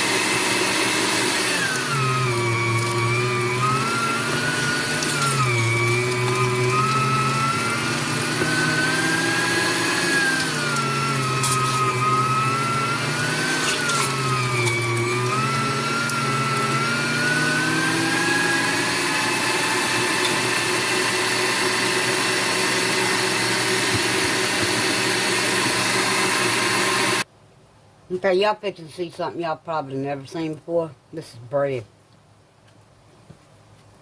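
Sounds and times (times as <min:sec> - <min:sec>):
electric meat grinder whine: 0:00.0 - 0:27.2.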